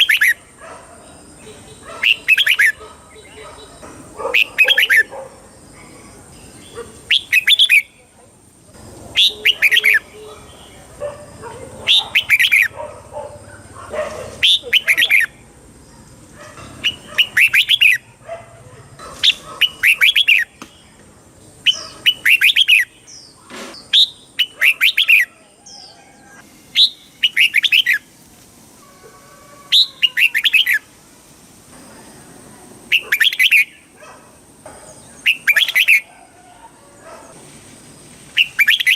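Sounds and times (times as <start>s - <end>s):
bird singing warbled phrases: 0.0s - 18.3s, 19.1s - 26.1s, 26.7s - 28.1s, 29.7s - 30.9s, 32.8s - 36.2s, 38.3s - 38.9s.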